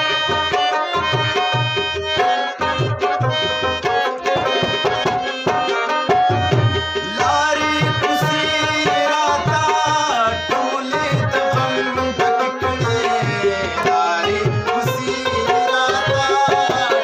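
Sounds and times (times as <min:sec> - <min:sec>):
rabab melody: 0:00.0 - 0:17.0
tabla playing a rhythm: 0:00.0 - 0:17.0.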